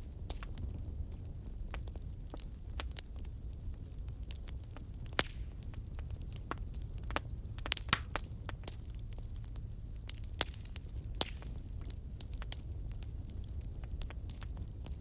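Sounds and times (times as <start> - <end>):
fire pops and snaps: 0.0 - 15.0
low rumble of flames: 0.0 - 15.0.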